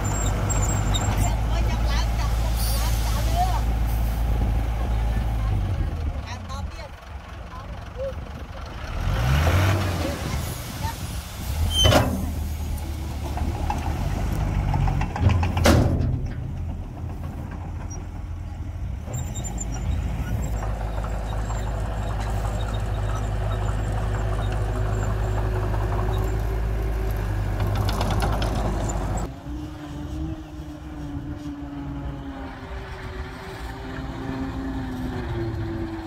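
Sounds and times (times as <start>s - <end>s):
dump truck tipping load: 0.0s - 29.3s
bulldozer pushing soil: 0.0s - 36.0s
heavy diesel engines running: 0.0s - 36.0s.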